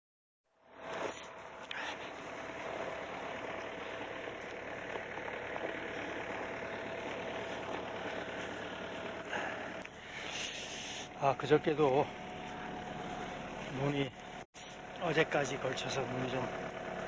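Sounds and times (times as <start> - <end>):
engine idling: 0.6 - 17.0.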